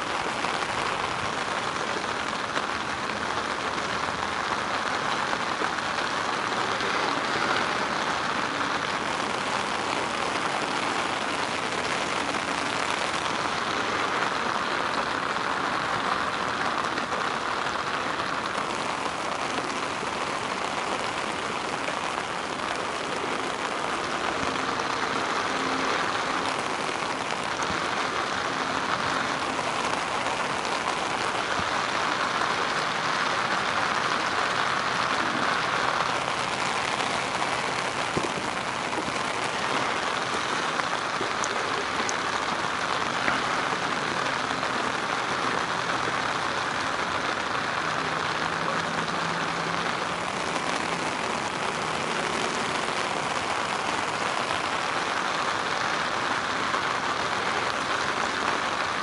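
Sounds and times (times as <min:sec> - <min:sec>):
rain falling on a river: 0:00.0 - 0:59.0.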